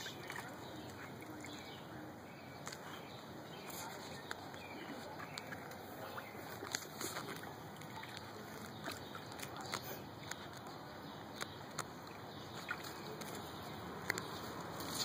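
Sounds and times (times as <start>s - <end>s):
dog paws sloshing water: 0.0s - 15.0s.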